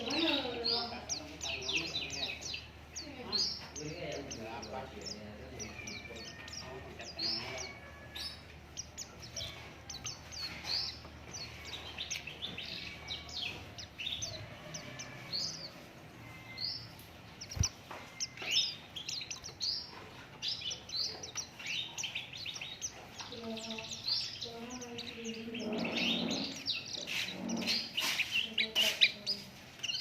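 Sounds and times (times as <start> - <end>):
birds chirping and twittering: 0.0 - 30.0.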